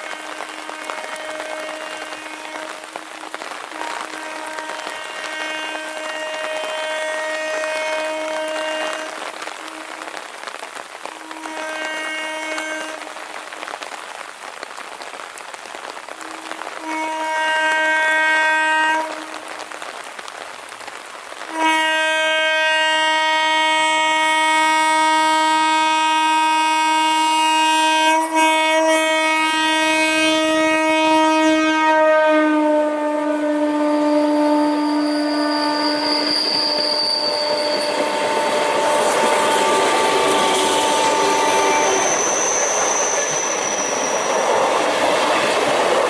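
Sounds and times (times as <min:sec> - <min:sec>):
train horn blasts: 0:00.0 - 0:10.4, 0:11.0 - 0:13.3, 0:16.2 - 0:19.8, 0:21.5 - 0:43.9
rain hissing: 0:00.0 - 0:46.0.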